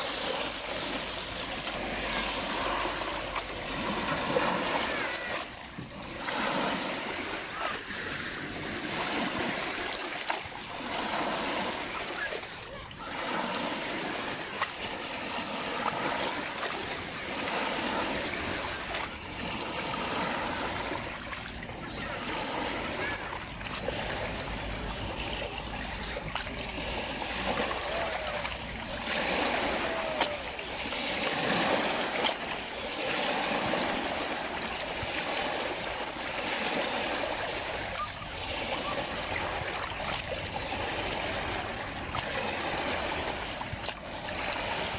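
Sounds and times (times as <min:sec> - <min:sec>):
lake water lapping: 0:00.0 - 0:44.9.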